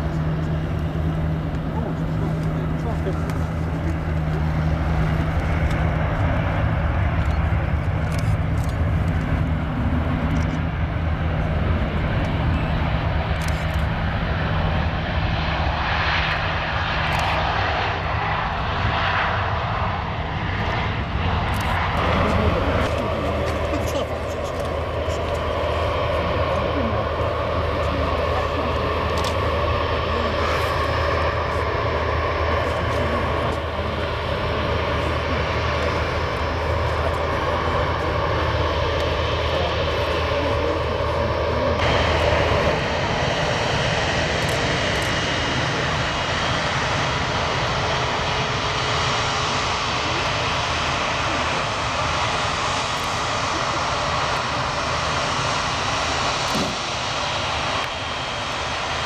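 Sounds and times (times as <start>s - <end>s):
jet engine rumble and hum: 0.0s - 59.0s.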